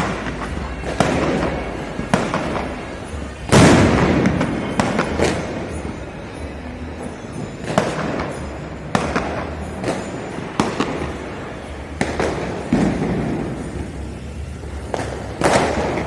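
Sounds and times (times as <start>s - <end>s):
firecrackers banging with echo: 0.0s - 16.0s.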